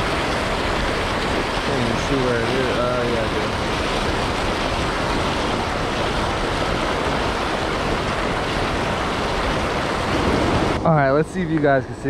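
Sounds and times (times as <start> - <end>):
floodwater rushing through spillway: 0.0 - 12.0.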